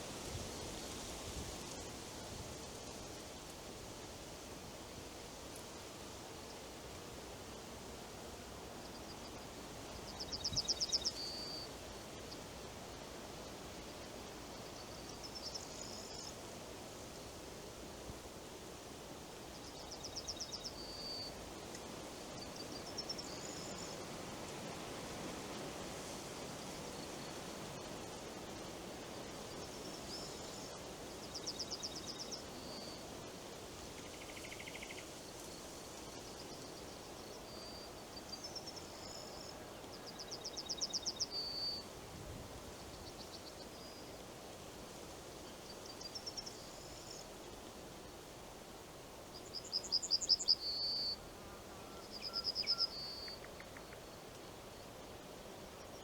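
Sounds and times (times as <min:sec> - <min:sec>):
wind through leaves: 0:00.0 - 0:56.0.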